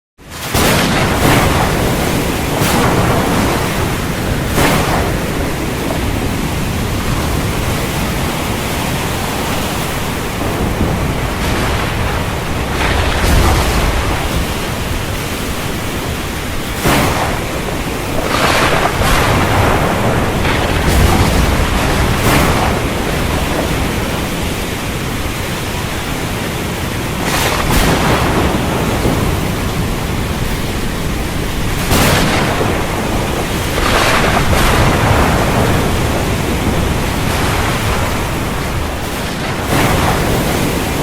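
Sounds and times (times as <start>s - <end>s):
surf: 0.2s - 41.0s
waves breaking: 0.2s - 41.0s
wind: 0.2s - 41.0s.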